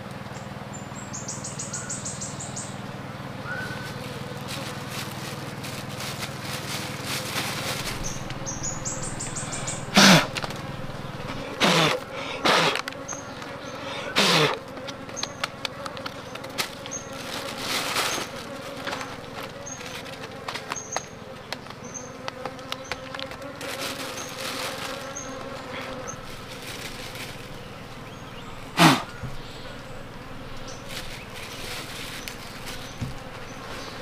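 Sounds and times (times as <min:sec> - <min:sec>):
bees buzzing: 0:00.5 - 0:34.0
loud falling buzzes: 0:01.2 - 0:34.0.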